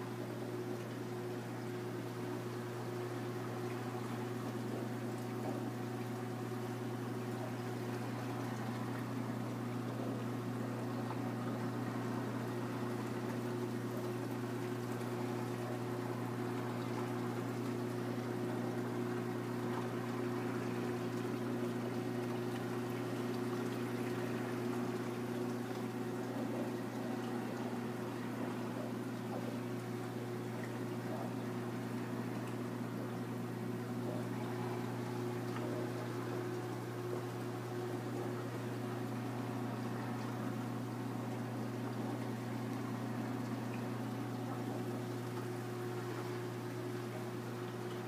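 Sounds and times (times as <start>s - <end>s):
aquarium pump hum: 0.0s - 48.0s
trickling water: 0.0s - 48.0s.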